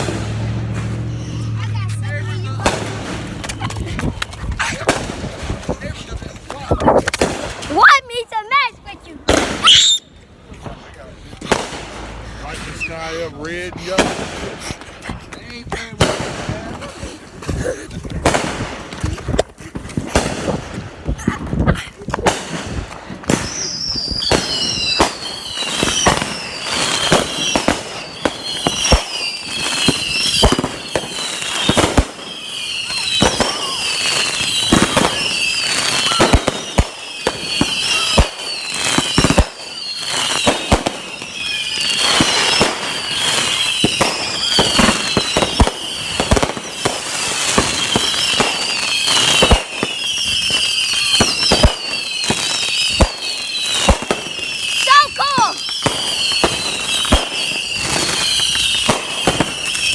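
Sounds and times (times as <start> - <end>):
fireworks whistling: 0.0 - 6.1, 6.8 - 10.2, 11.4 - 14.8, 22.3 - 59.9
fireworks bangs and crackles: 0.0 - 59.9.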